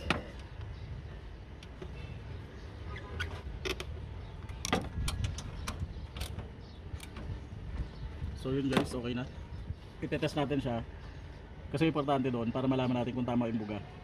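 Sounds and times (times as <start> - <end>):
steady low rumble: 0.0 - 11.8.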